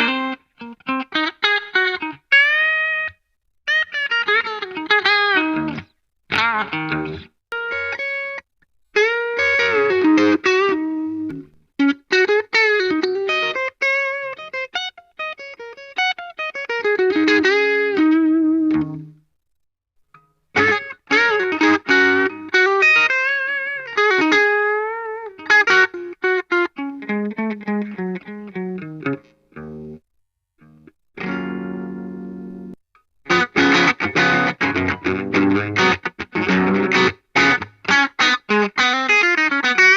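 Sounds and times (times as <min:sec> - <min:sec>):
electric guitar lead phrases: 0:00.0 - 0:08.4, 0:09.0 - 0:19.2, 0:20.6 - 0:30.0, 0:30.6 - 0:39.9.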